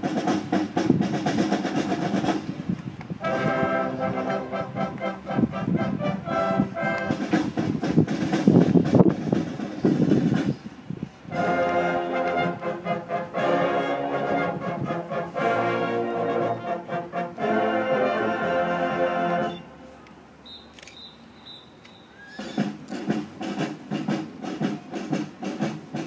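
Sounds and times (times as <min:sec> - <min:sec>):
marching band brass chords: 0:00.0 - 0:19.6, 0:20.5 - 0:26.0.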